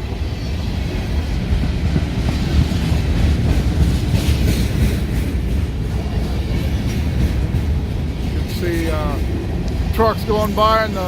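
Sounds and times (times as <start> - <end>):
freight train rumbling past: 0.0 - 11.0
train wheels clattering on rails: 0.0 - 11.0.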